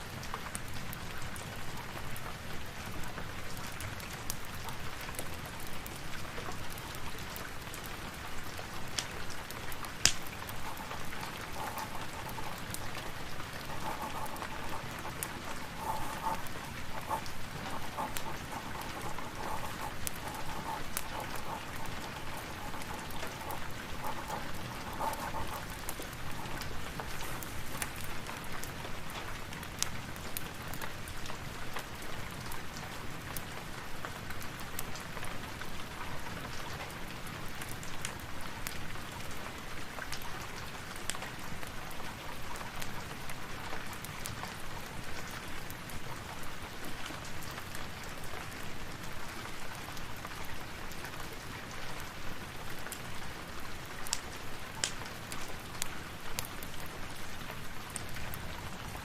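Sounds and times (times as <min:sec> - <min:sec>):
steady rain: 0:00.0 - 0:59.0
fireplace crackling and popping: 0:02.9 - 0:39.0, 0:39.9 - 0:59.0.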